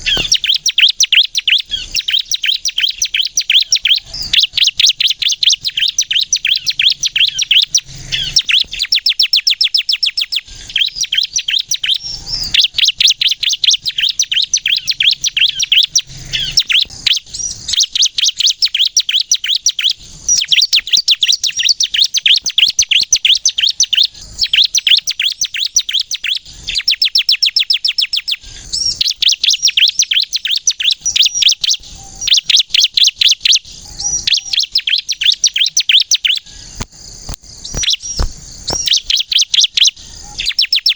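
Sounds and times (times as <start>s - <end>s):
bird singing rapid high notes: 0.0s - 36.8s, 37.5s - 40.9s.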